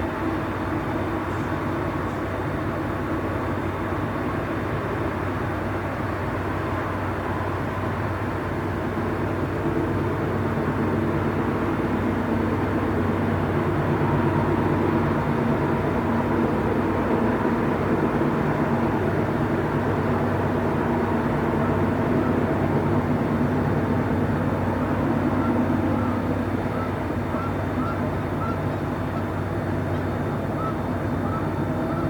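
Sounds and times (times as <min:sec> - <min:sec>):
constant low hum: 0:00.0 - 0:32.0.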